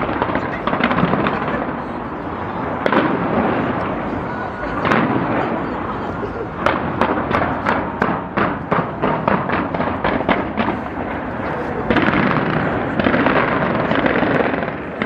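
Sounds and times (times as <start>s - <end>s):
fireworks bangs: 0.0s - 15.0s
fireworks crackle: 0.0s - 15.0s.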